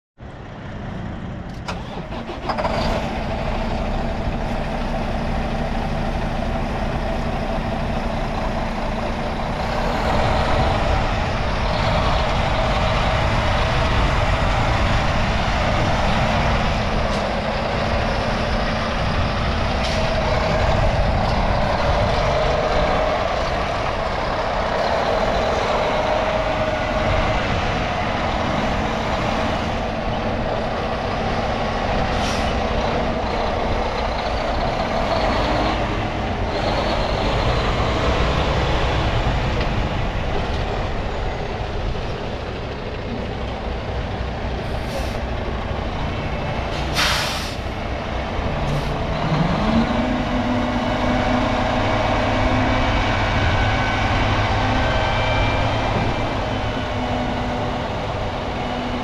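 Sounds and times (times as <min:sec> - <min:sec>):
diesel truck engine idling: 0:00.2 - 0:59.0.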